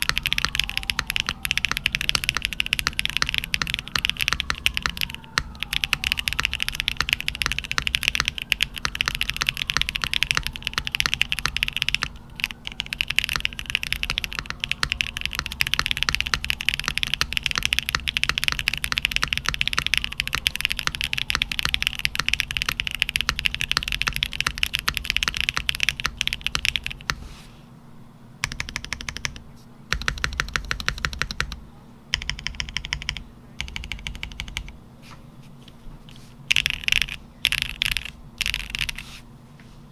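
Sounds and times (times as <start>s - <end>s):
mechanical keyboard typing: 0.0s - 27.2s, 28.4s - 34.8s, 36.1s - 39.2s.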